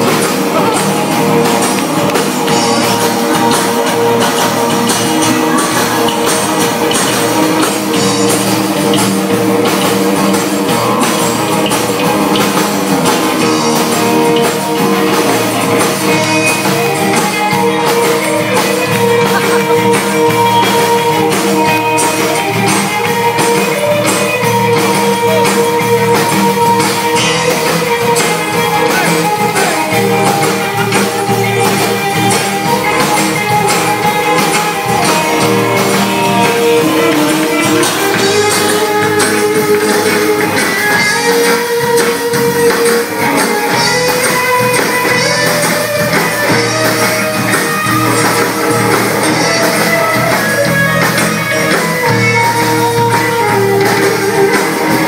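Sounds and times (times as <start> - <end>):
drum beat: 0.0 - 55.0
rock band playing: 0.0 - 55.0.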